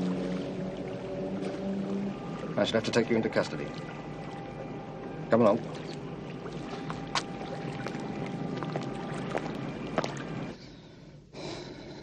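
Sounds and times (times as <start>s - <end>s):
faint hum: 0.0s - 12.0s
low rumbling noise bed: 0.0s - 12.0s.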